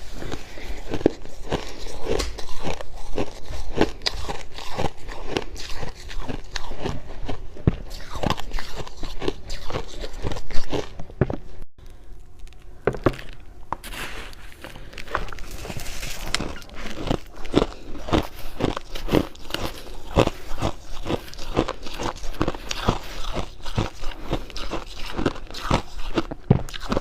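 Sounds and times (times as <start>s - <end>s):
frost being chewed: 0.0s - 27.0s.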